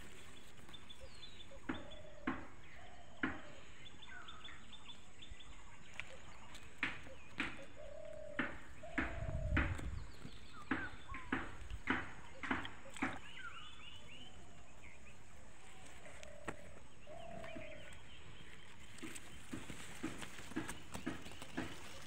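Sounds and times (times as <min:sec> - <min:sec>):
birds calling sharply: 0:00.0 - 0:22.0.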